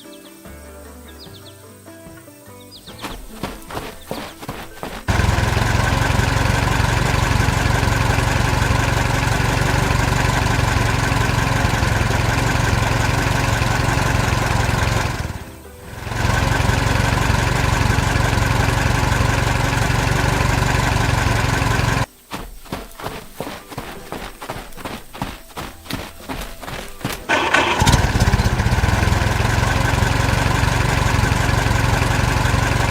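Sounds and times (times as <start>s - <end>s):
motor droning: 3.4s - 22.1s, 25.2s - 32.9s.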